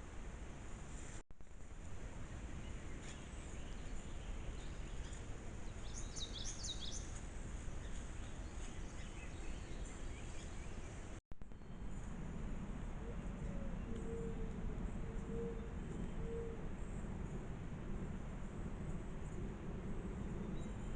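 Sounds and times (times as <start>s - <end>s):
low rumble and hiss: 0.0s - 20.9s.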